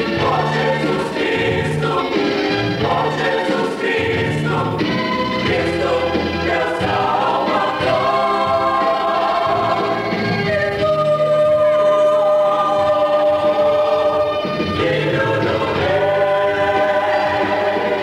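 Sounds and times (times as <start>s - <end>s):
mixed choir singing: 0.0s - 18.0s.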